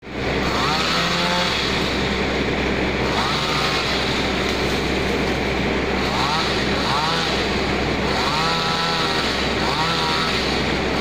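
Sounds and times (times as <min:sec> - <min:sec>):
engine-driven machine humming: 0:00.0 - 0:11.0.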